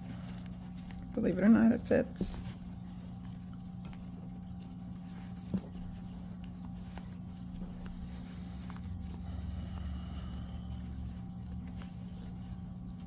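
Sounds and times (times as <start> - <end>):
steady low hum: 0.0 - 13.0
yarn pieces handling noises: 0.0 - 13.0.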